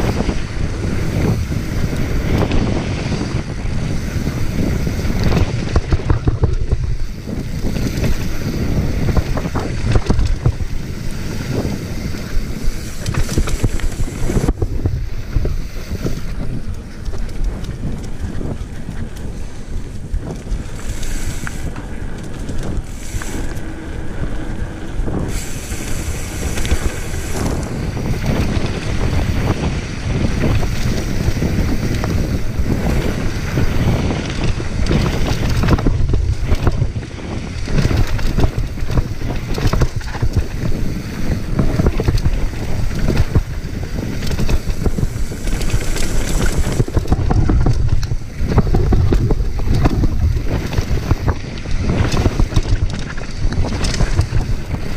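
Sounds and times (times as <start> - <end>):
bike rattling over bumps: 0.0 - 54.9
tyres rolling on dirt: 0.0 - 54.9
wind on microphone: 0.0 - 54.9.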